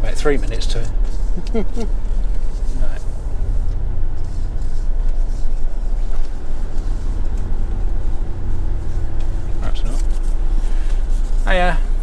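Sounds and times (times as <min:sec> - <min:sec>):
motorhome engine rumble: 0:00.0 - 0:12.0.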